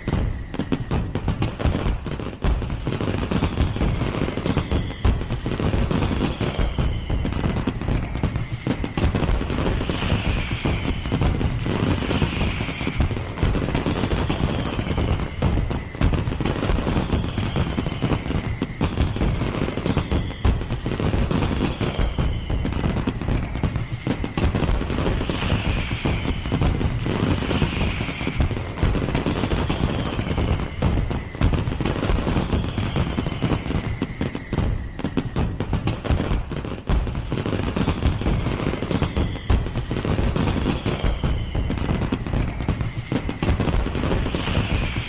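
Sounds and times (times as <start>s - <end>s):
falling whistles: 0.0s - 2.0s, 2.7s - 45.0s
fireworks bangs and crackles: 0.0s - 45.0s.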